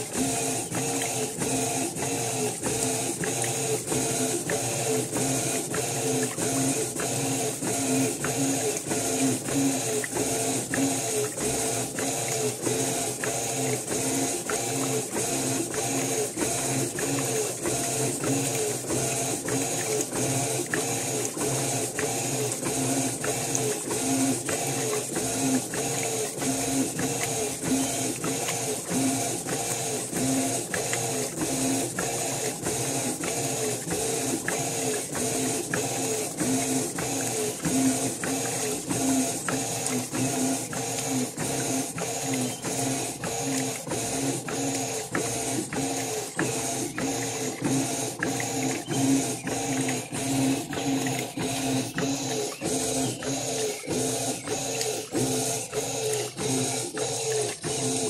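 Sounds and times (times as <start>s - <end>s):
washing machine churning: 0.0s - 58.0s.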